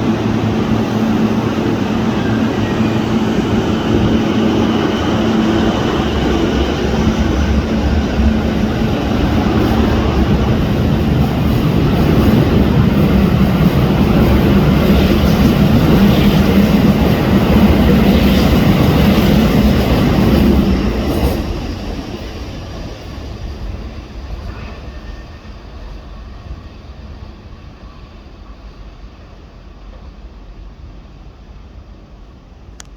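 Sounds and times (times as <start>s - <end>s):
electric train rumbling: 0.0s - 32.9s.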